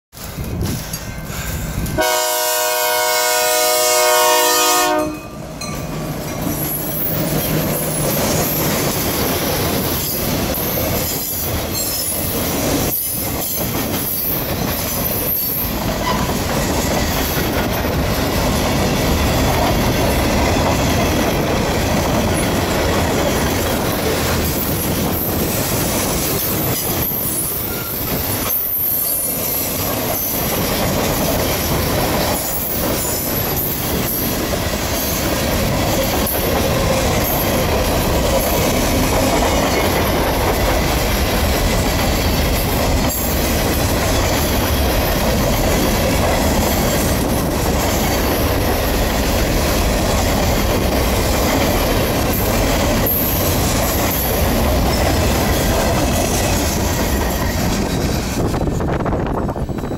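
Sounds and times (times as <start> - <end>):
train wheels rumbling on rail: 0.1 - 59.9.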